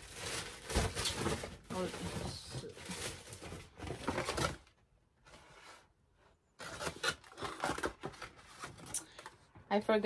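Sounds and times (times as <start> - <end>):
gift packaging rustling: 0.0 - 5.9, 6.6 - 9.5.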